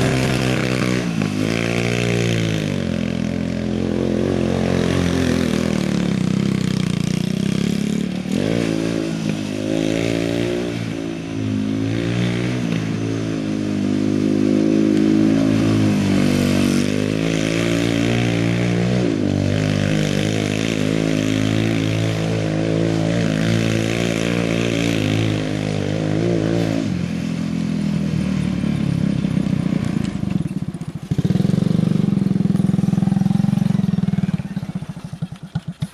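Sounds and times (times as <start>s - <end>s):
engine revving: 0.0s - 35.9s.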